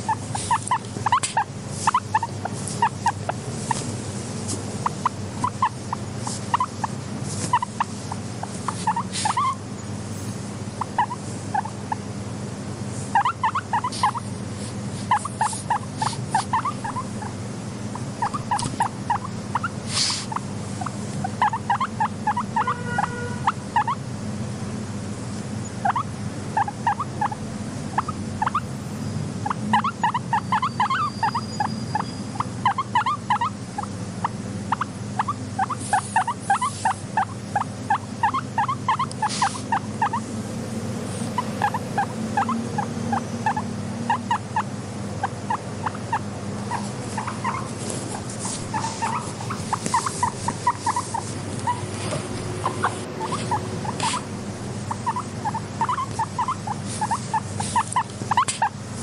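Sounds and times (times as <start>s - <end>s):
guinea pig squeaking: 0.0s - 9.7s, 10.8s - 12.0s, 13.0s - 14.4s, 15.0s - 24.0s, 25.6s - 28.7s, 29.4s - 40.3s, 41.1s - 59.0s.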